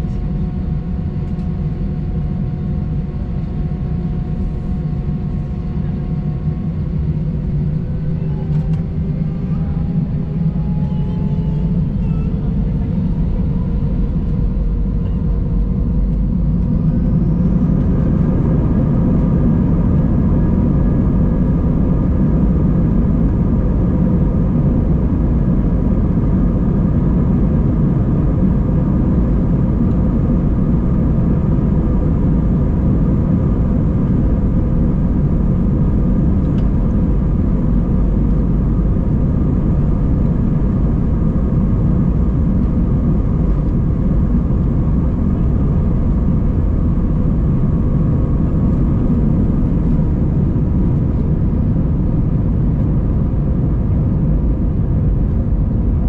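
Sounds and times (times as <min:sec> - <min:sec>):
jet engines rumbling in cabin: 0:00.0 - 0:56.0
steady hums: 0:00.0 - 0:56.0.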